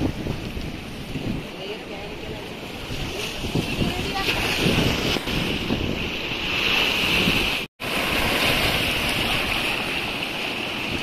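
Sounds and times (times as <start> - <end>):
floodwater rushing against stone: 0.0 - 11.0
wind buffeting microphone: 0.0 - 11.0.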